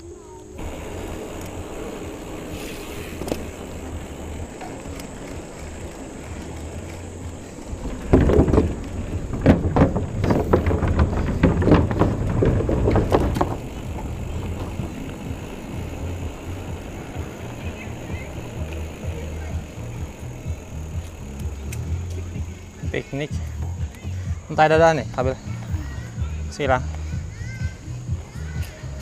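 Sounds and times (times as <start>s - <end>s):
bike tyres rumbling on dirt: 0.5s - 29.0s
bike knocking and rattling: 0.6s - 29.0s.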